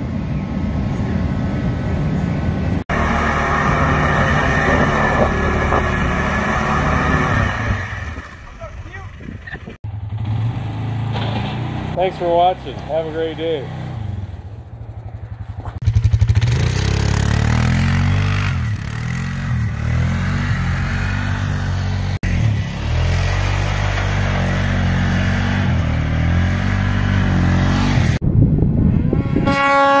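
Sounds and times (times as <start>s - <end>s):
snowmobile engine whine: 0.3s - 9.8s, 12.0s - 30.0s
atv engine passing: 2.0s - 28.2s
engine revving: 2.8s - 28.2s.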